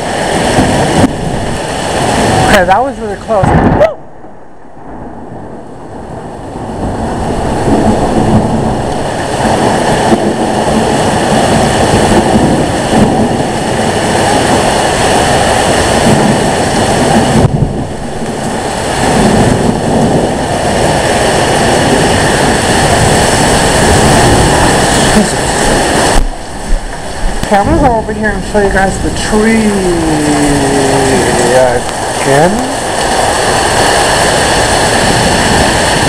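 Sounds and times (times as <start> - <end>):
wind gusting across microphone: 0.0 - 36.0.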